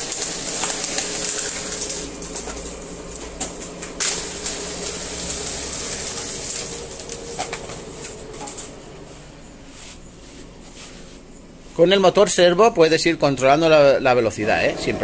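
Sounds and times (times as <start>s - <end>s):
faint machine hum: 0.0s - 15.0s.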